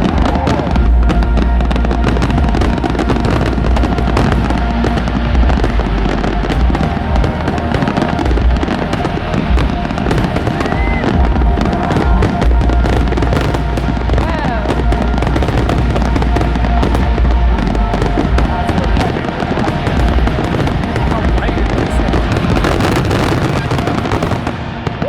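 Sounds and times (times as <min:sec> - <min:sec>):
fireworks booming: 0:00.0 - 0:25.0
fireworks crackling: 0:00.0 - 0:25.0.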